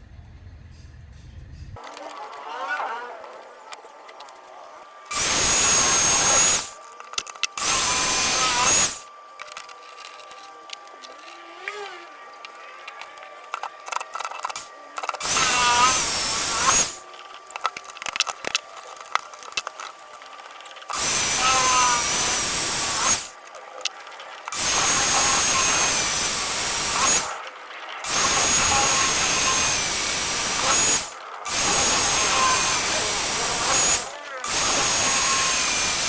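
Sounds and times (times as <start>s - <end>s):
power tool motor spinning: 1.8s - 36.0s.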